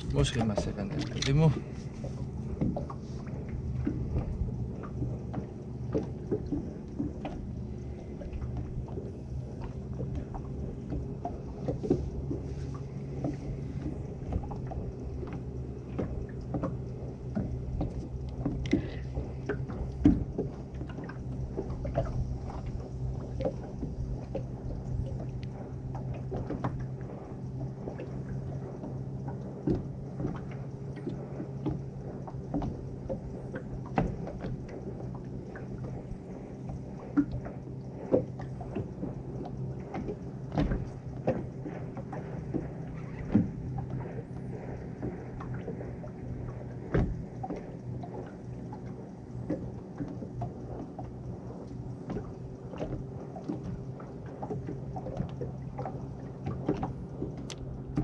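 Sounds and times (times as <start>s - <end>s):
small boat motor humming: 0.0s - 58.0s
water against hull: 0.0s - 58.0s
knocks and clicks of gear: 0.2s - 3.0s, 8.3s - 27.0s, 28.8s - 45.6s, 46.5s - 55.4s, 56.0s - 58.0s.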